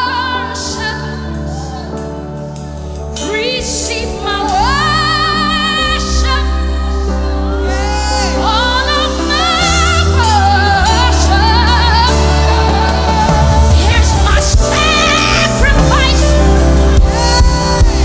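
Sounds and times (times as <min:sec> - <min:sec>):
person singing with vibrato: 0:00.0 - 0:18.0
sustained chords and bass: 0:00.0 - 0:18.0.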